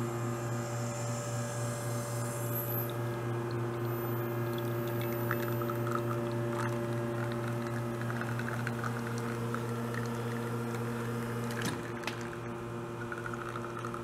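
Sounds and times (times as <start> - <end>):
espresso machine pump humming: 0.0 - 14.0
espresso dripping into a cup: 0.8 - 14.0.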